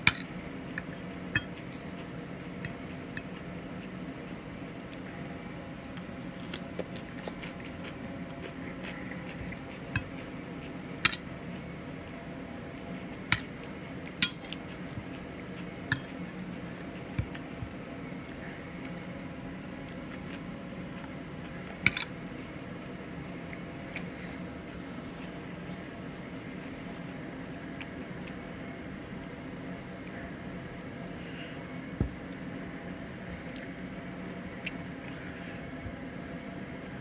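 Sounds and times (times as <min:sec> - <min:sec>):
chewing: 0:00.1 - 0:37.0.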